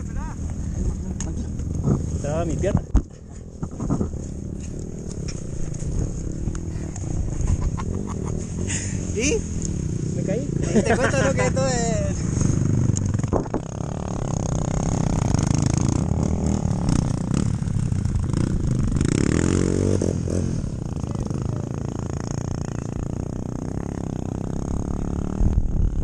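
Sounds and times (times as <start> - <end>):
motorcycle engine revving: 0.0 - 26.0
motorcycle engine running: 0.0 - 26.0.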